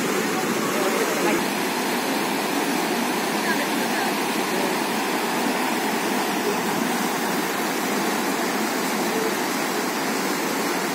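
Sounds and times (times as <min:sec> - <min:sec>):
water rushing over rocks: 0:00.0 - 0:10.9.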